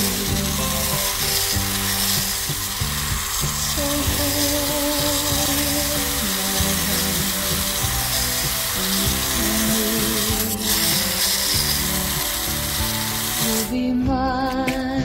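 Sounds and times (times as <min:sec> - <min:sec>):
garden hose spray hissing: 0:00.0 - 0:14.0
background music: 0:00.0 - 0:15.0.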